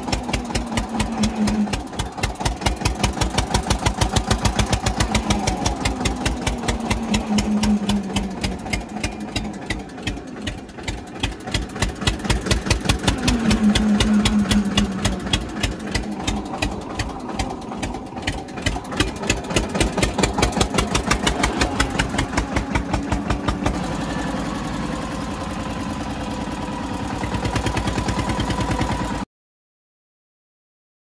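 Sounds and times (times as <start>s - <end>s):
tractor diesel engine thumping: 0.0s - 29.2s.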